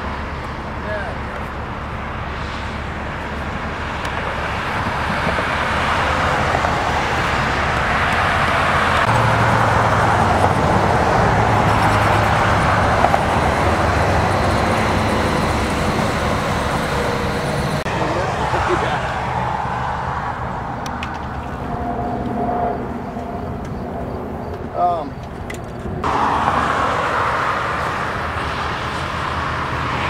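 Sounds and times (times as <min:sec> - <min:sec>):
highway traffic rushing: 0:00.0 - 0:30.0
low engine hum: 0:00.0 - 0:30.0.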